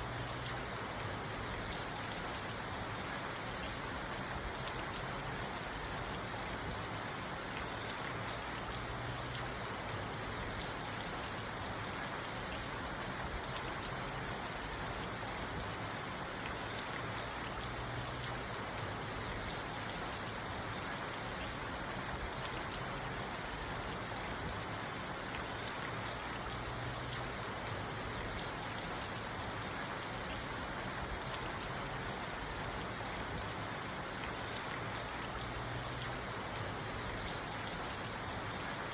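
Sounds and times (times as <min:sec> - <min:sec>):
rain falling on a car: 0:00.0 - 0:38.9.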